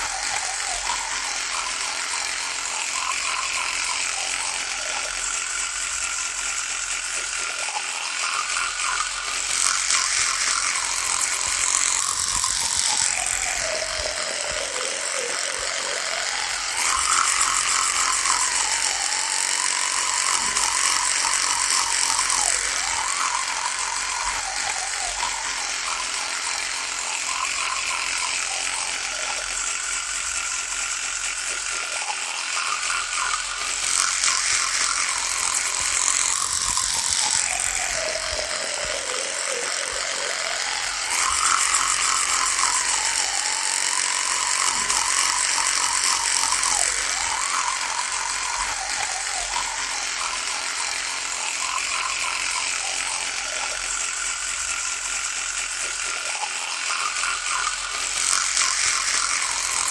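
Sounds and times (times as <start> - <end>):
electric toothbrush buzzing: 0.0 - 59.9.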